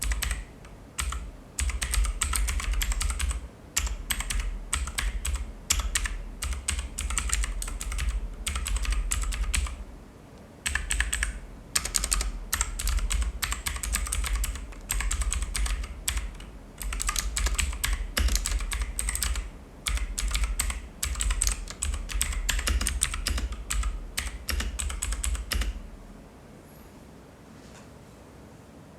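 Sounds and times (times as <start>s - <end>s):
mechanical keyboard clicking keystrokes: 0.0s - 9.8s, 10.6s - 25.8s.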